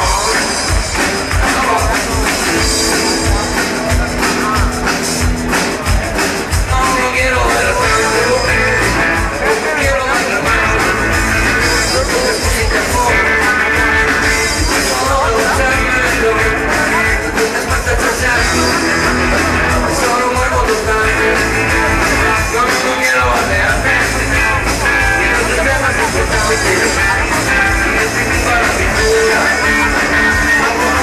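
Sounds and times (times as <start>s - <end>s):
drum kit beat: 0.0s - 31.0s
electric guitar: 0.0s - 31.0s.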